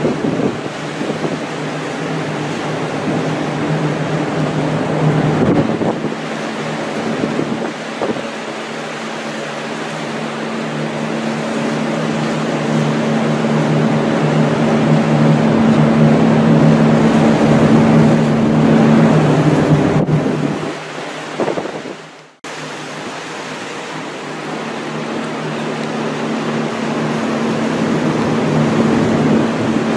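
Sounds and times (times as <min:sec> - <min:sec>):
wind buffeting microphone: 0:00.0 - 0:08.4, 0:11.0 - 0:22.2, 0:24.7 - 0:29.9
low machinery hum: 0:00.0 - 0:20.7, 0:22.2 - 0:29.9
rough sea: 0:00.0 - 0:29.9.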